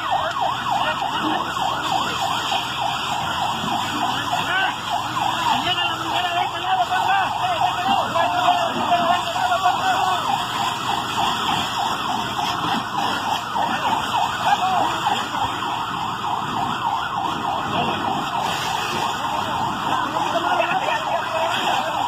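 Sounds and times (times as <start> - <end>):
sirens wailing: 0.0 - 22.0.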